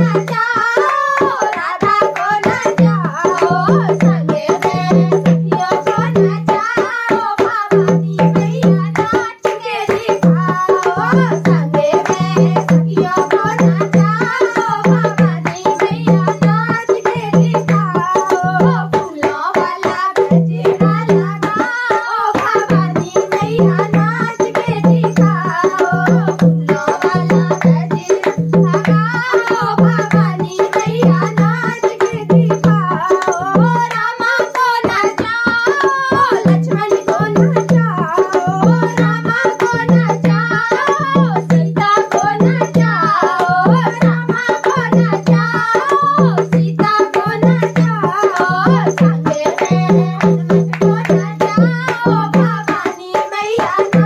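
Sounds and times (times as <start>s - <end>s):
hand drum beat: 0.0s - 54.0s
women singing devotional song: 0.0s - 54.0s.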